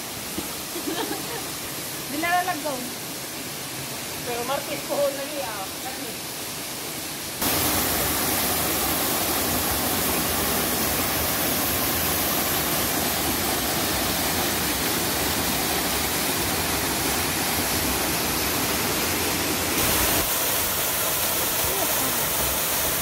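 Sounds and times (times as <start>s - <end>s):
small waterfall pouring over rocks: 0.0s - 23.0s.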